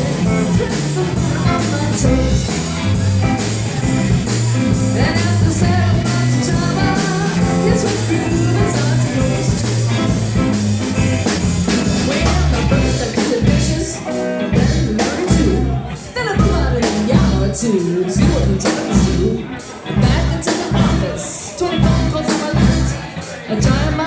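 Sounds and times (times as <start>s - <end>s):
blues-rock band playing: 0.0s - 24.0s.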